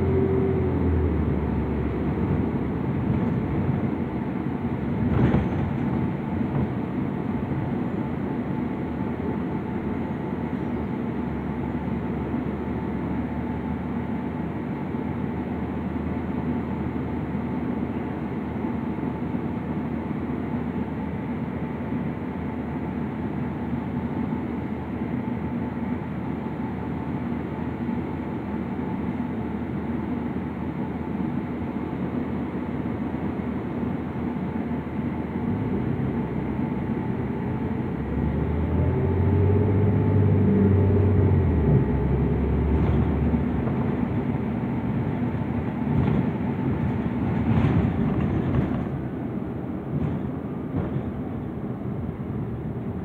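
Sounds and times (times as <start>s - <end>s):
bus drivetrain drone: 0.0s - 53.0s
tyres on the road: 0.0s - 53.0s.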